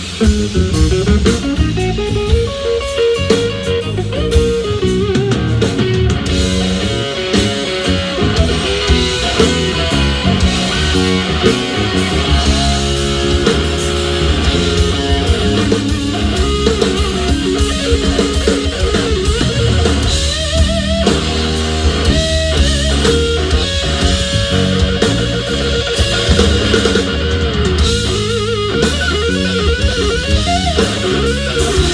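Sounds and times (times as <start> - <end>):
bass: 0.0 - 31.9
drums: 0.0 - 31.9
electric guitar lead with bent notes: 0.0 - 31.9.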